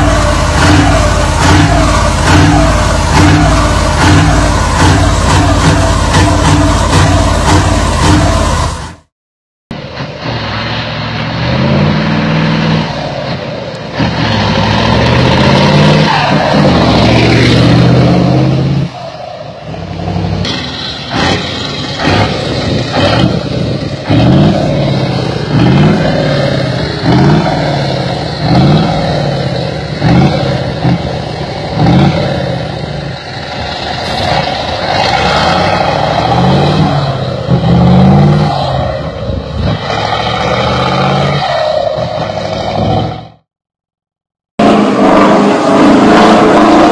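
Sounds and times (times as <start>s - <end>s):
truck engines accelerating hard: 0.0s - 9.1s, 9.7s - 43.5s, 44.6s - 46.9s.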